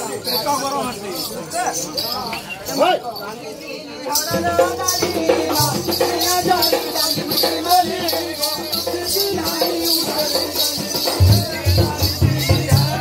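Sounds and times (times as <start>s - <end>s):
rattling percussion beat: 0.0s - 3.5s, 4.1s - 13.0s.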